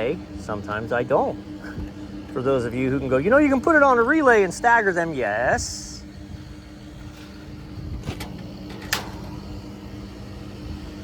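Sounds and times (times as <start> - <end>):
air-conditioning equipment humming: 0.0 - 11.0.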